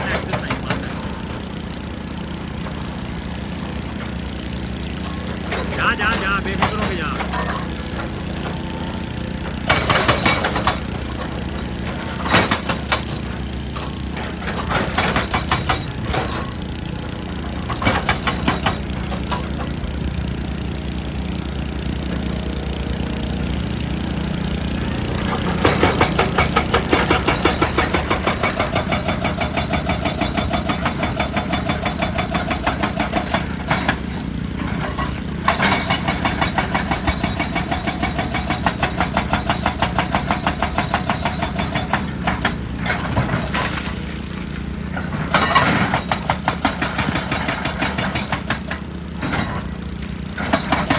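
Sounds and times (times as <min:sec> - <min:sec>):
excavator diesel engine running: 0:00.0 - 0:50.9
hydraulic breaker hammering rock: 0:00.0 - 0:50.9.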